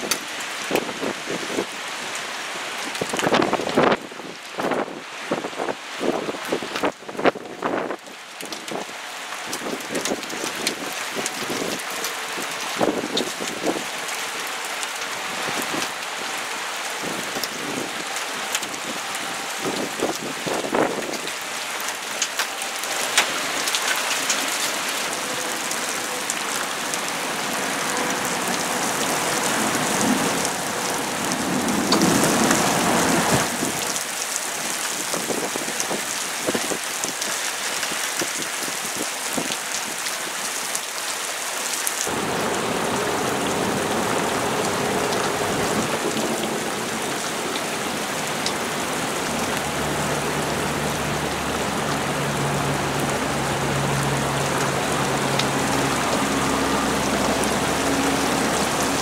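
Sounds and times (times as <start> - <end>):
heavy rain splashing on pavement: 0.0 - 59.0.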